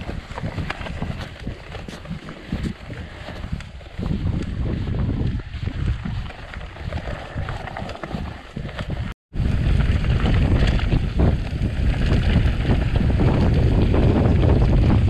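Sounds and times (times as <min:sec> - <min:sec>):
bike rattling: 0:00.0 - 0:15.0
bike tyres rumbling on rough ground: 0:00.0 - 0:15.0
wind buffeting microphone: 0:00.0 - 0:15.0.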